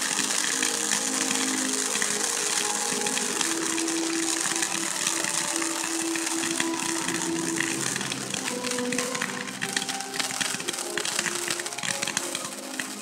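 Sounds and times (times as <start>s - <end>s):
firework fountains hissing and crackling: 0.0s - 13.0s.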